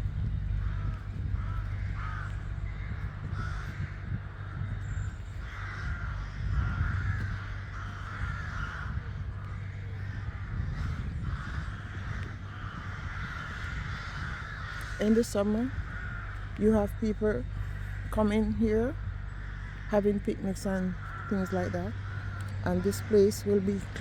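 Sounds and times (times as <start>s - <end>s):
crows cawing: 0.0s - 24.0s
steady low rumble: 0.0s - 24.0s.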